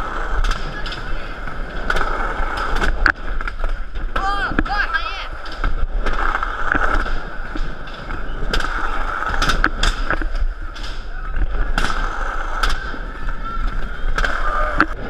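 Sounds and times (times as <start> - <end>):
skateboard wheels rolling: 0.0 - 15.0.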